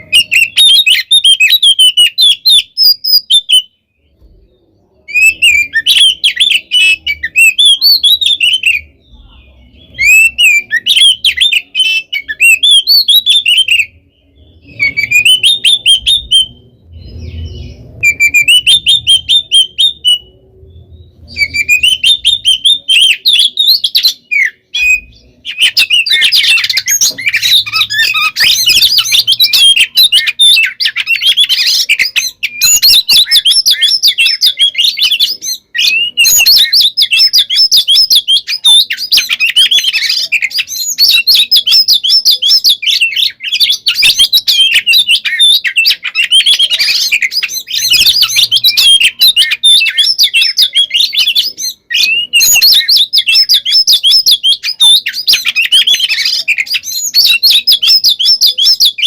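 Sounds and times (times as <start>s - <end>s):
magpie-robin singing: 0.0s - 59.0s.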